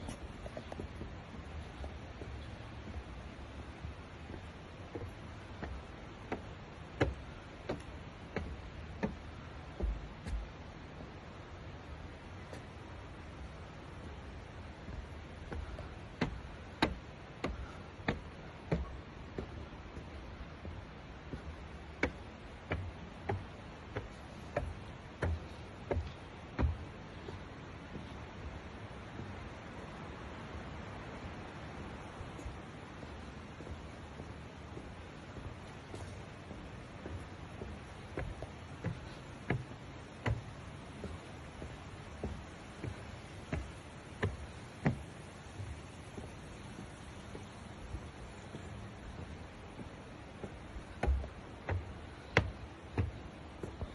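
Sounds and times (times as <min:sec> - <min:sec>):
sharp footsteps: 0:00.0 - 0:29.9, 0:32.0 - 0:53.9
low background noise: 0:00.0 - 0:53.9
steady hiss: 0:00.0 - 0:53.9.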